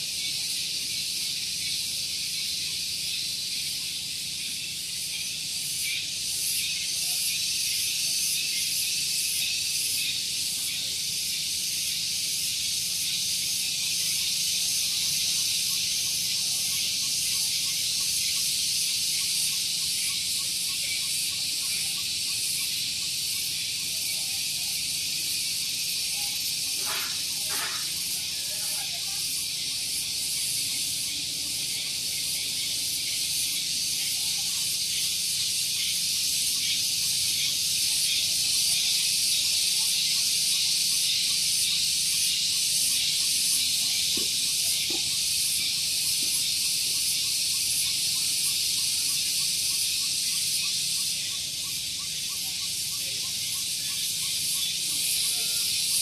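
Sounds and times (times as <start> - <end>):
cicadas singing: 0.0 - 56.0.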